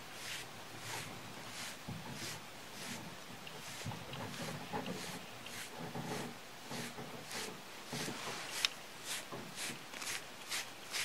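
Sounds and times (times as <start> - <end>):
brush hissing through fur: 0.0 - 11.0.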